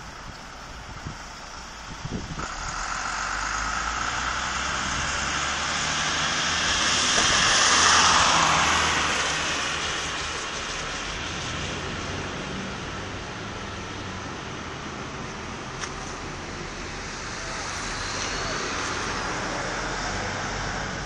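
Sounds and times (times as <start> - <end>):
car tyres hissing on wet road: 0.0 - 21.0.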